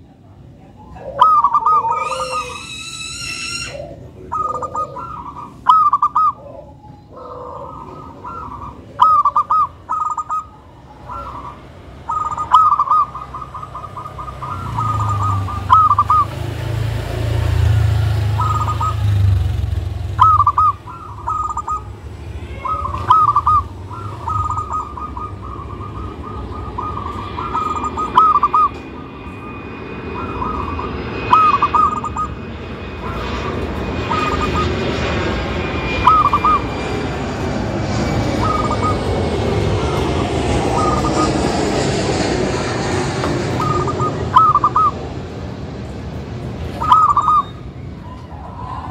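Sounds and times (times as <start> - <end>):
dove cooing: 0.0 - 45.2, 46.7 - 48.9.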